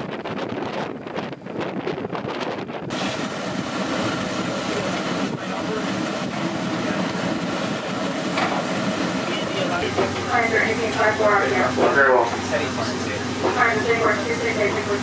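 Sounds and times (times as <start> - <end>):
wind over rough sea: 0.0 - 15.0
shipboard machinery drone: 2.9 - 15.0.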